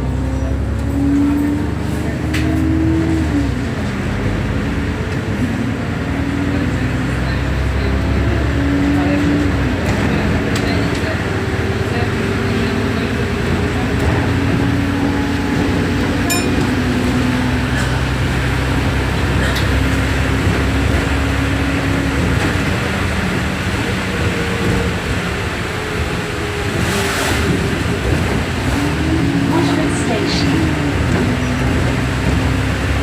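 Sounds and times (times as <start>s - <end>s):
bus diesel engine whining: 0.0s - 33.0s.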